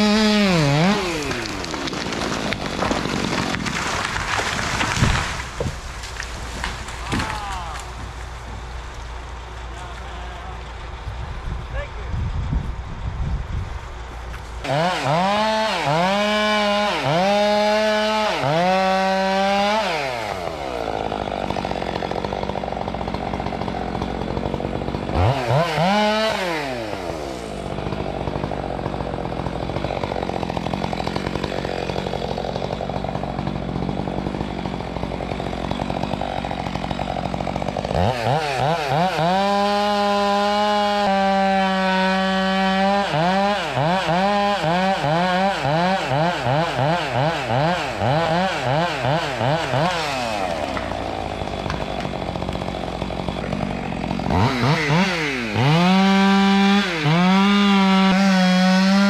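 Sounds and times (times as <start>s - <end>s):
chainsaw revving and idling: 0.0s - 11.2s, 14.0s - 59.0s.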